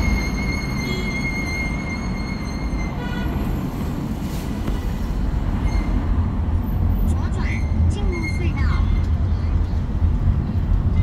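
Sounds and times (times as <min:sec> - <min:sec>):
car tyres and engine rumble: 0:00.0 - 0:11.0.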